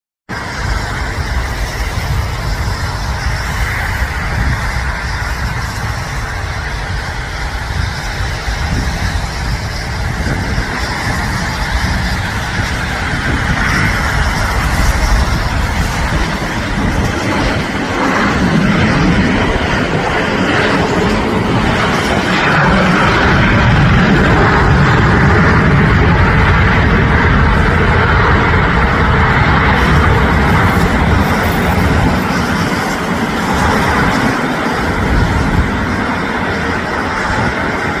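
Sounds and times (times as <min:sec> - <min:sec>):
jet engines landing: 0:00.3 - 0:38.0.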